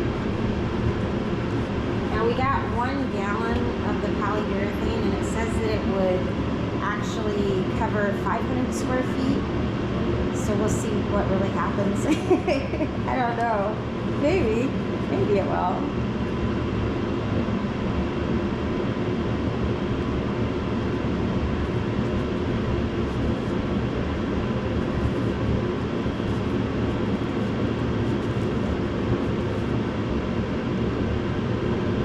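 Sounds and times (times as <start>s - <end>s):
steady mechanical drone: 0.0s - 32.0s.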